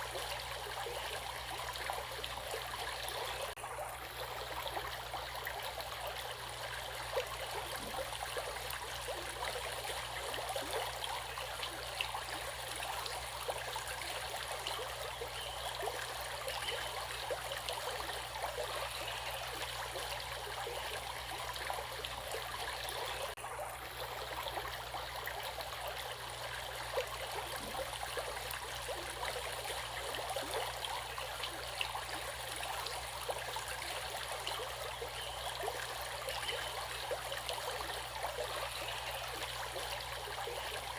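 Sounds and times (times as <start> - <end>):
stream water running over rocks: 0.0 - 40.9.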